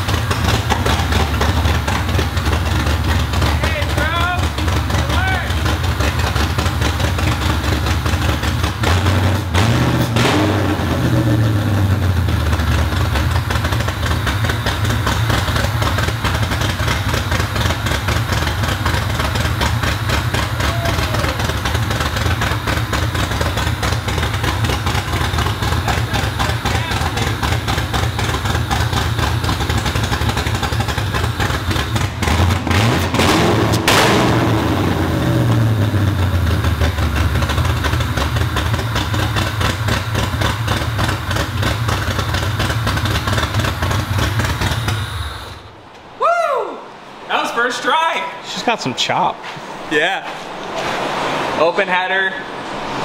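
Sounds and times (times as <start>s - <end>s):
engine revving: 0.0s - 45.7s, 50.5s - 53.0s
engine idling with chop: 0.0s - 45.8s.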